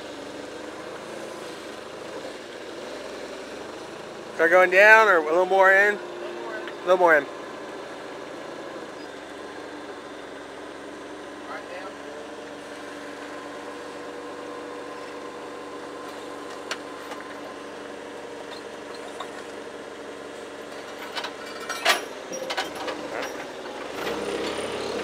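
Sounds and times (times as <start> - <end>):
forklift engine idling: 0.0 - 25.0.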